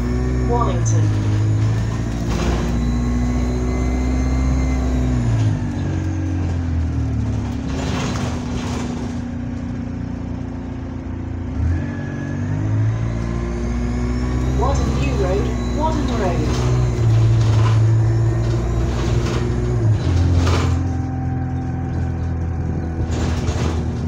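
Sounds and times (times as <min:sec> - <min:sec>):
bus engine pulling under load: 0:00.0 - 0:24.0.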